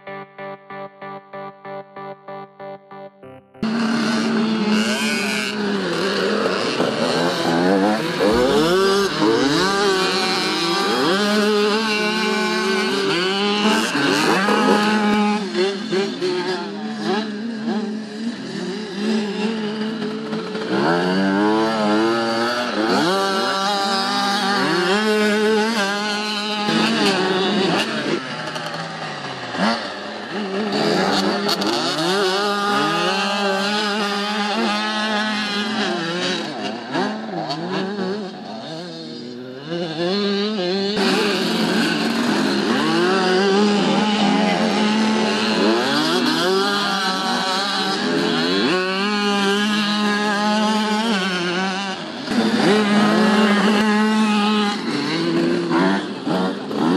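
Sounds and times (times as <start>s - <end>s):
motocross bikes revving: 0.0s - 56.9s.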